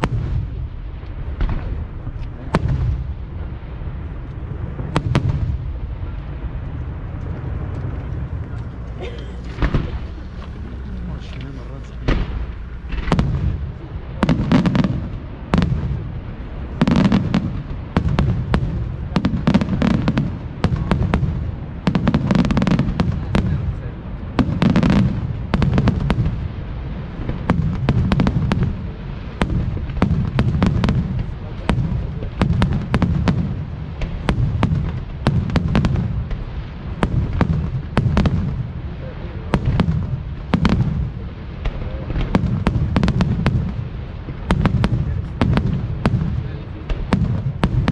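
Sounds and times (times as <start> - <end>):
fireworks bangs: 0.0 - 47.9
low rumble of booms: 0.0 - 47.9.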